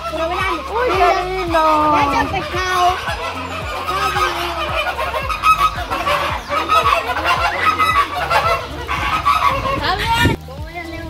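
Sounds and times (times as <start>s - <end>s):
flamingos honking: 0.0s - 11.0s.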